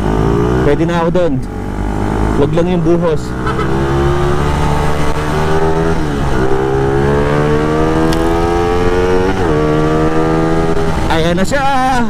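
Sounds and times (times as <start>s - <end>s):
motorcycle engine accelerating: 0.0s - 11.4s.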